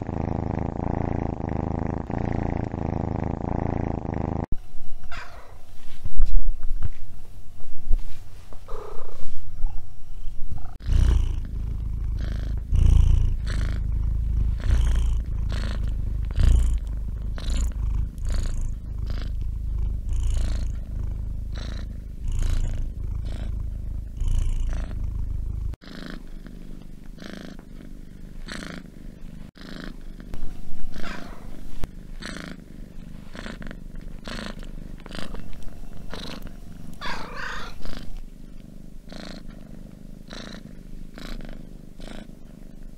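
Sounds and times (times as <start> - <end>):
cats purring: 0.0 - 5.6, 8.0 - 9.8, 10.5 - 42.9.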